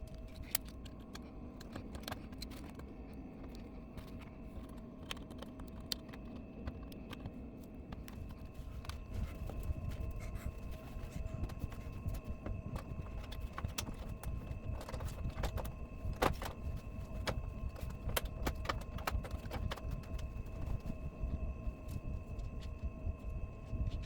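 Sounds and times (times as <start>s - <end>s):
faint steady whine: 0.0s - 24.0s.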